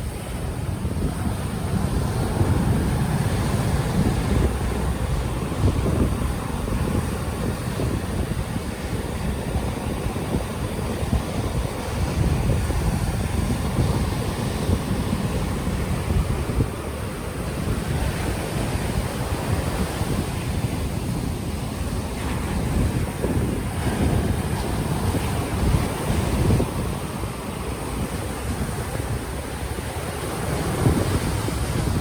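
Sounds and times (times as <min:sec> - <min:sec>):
ocean waves washing in: 0:00.0 - 0:32.0
wind buffeting microphone: 0:00.0 - 0:32.0.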